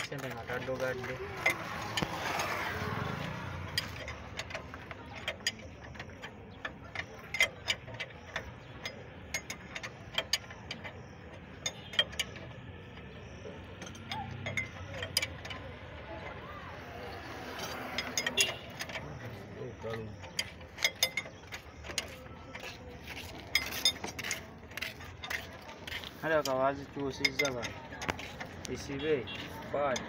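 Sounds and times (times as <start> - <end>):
spanner clicking on metal nut: 0.0 - 30.0.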